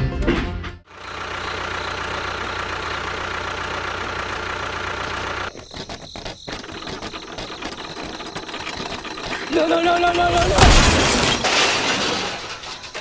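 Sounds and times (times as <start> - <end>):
motor running: 0.9 - 11.4
irregular clicks and rattles: 2.4 - 13.0.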